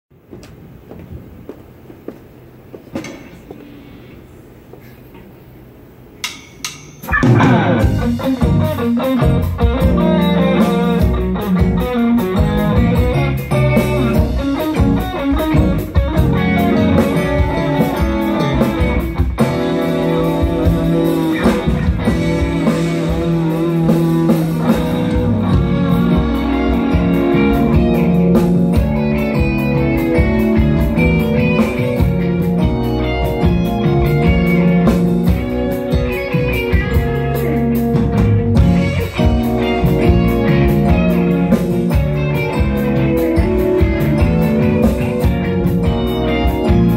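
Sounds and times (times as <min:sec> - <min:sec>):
live rock band playing: 0:07.0 - 0:46.9.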